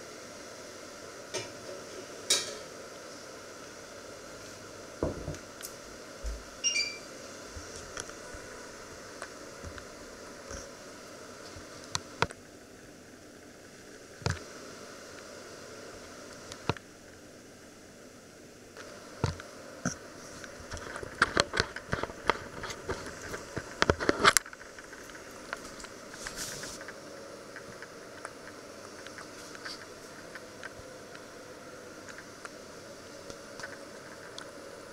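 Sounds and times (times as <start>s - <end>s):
steady background hum: 0.0s - 34.9s.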